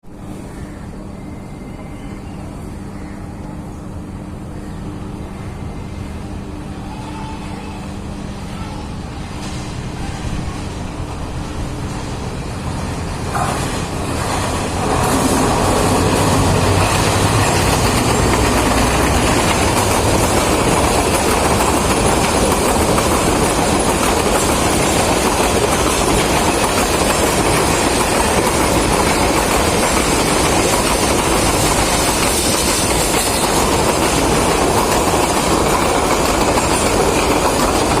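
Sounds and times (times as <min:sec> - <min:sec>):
train running on rails: 0:00.0 - 0:38.0.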